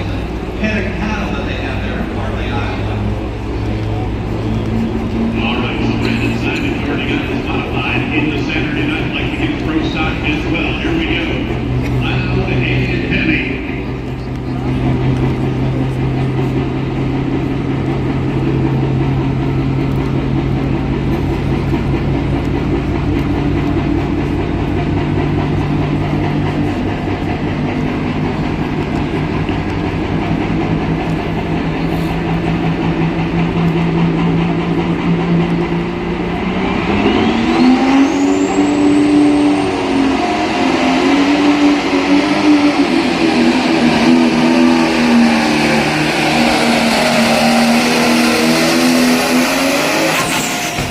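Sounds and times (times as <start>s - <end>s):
high whine rising in pitch: 0.0s - 50.9s
tractor engine revving: 0.0s - 50.9s.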